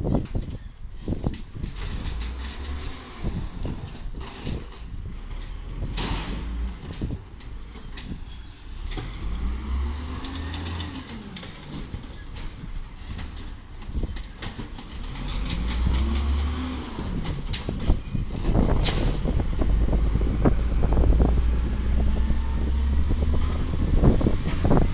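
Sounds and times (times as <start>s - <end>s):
knocks and clanks: 0.1s - 24.9s
garbage truck diesel engine revving: 1.7s - 7.3s, 8.6s - 24.9s.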